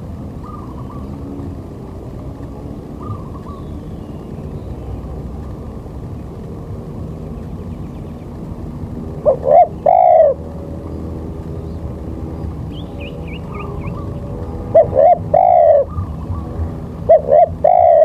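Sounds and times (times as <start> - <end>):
bird calling: 0.0 - 1.5, 2.9 - 6.3, 7.1 - 18.0
steady low rumble: 0.0 - 18.0.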